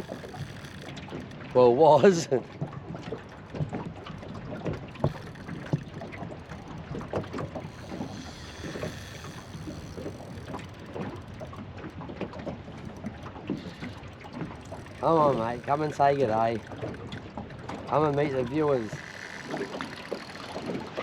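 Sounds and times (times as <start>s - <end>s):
water lapping against boat hull: 0.0s - 21.0s
light knocks and clicks: 3.5s - 21.0s.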